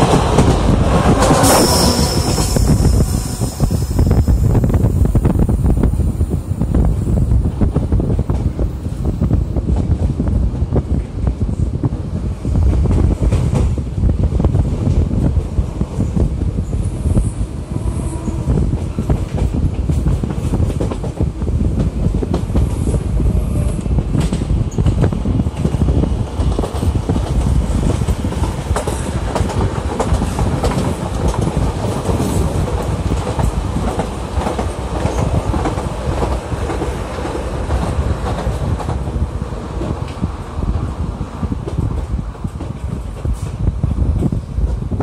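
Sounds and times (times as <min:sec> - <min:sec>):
train wheels rumbling on rails: 0:00.0 - 0:45.0
wind: 0:00.0 - 0:45.0.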